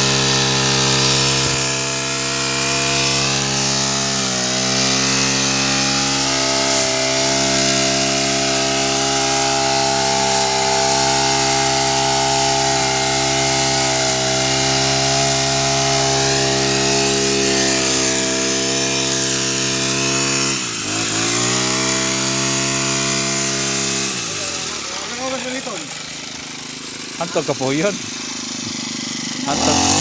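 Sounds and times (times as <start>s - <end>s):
grass cutter engine running: 0.0s - 30.0s
nylon line trimming grass: 0.0s - 30.0s.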